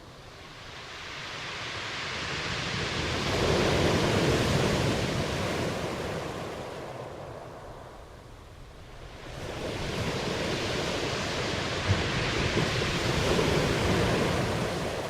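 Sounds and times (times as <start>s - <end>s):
ocean wave washing in: 0.2s - 7.0s, 9.1s - 15.0s.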